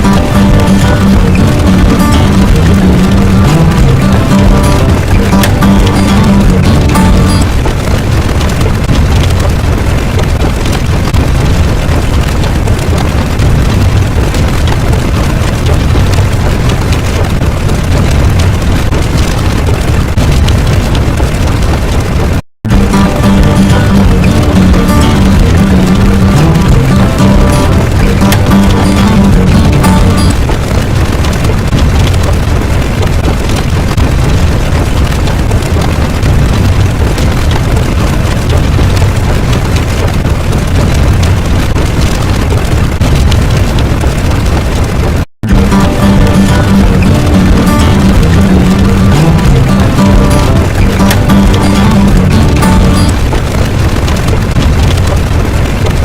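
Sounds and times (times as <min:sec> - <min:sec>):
loud low rumbling noise: 0:00.0 - 0:56.0.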